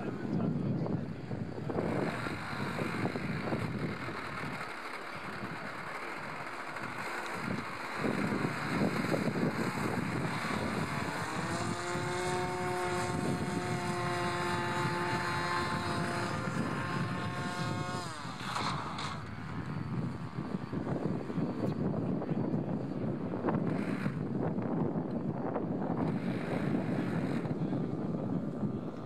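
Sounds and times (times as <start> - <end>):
model aircraft motor whine: 0.0 - 29.0
wind noise on microphone: 0.0 - 29.0.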